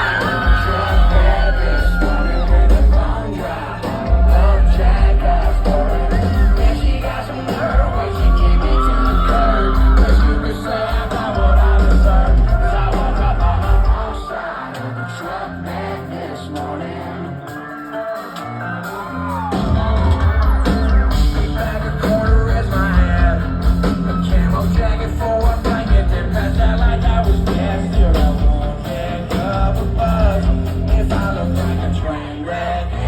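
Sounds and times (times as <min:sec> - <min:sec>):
country-rock band playing: 0:00.0 - 0:32.3
person singing: 0:00.0 - 0:33.0.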